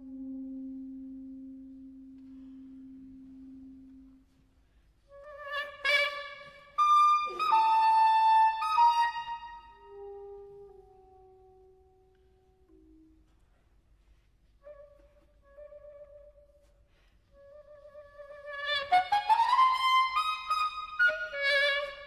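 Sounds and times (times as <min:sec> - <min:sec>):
soprano saxophone: 0:00.0 - 0:13.7, 0:14.5 - 0:22.0.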